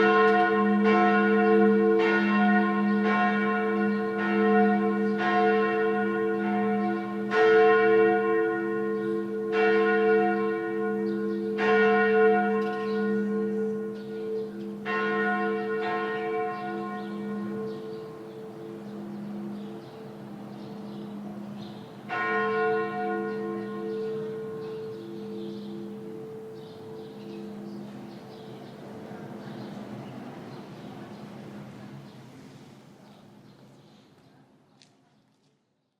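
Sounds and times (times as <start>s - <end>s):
church bell ringing: 0.0s - 32.0s.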